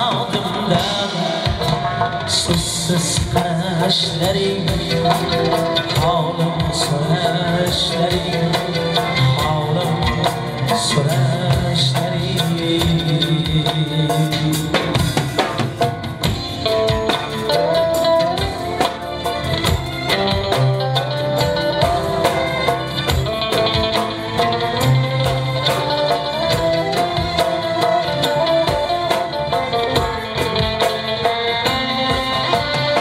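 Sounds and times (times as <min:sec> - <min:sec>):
drum kit beat: 0:00.0 - 0:33.0
goblet drum: 0:00.0 - 0:33.0.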